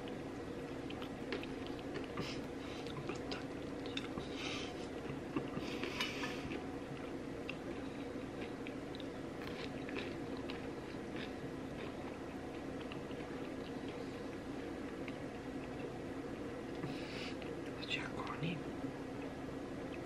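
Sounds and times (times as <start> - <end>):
person chewing food: 0.0 - 17.6
steady low hum: 0.0 - 20.0.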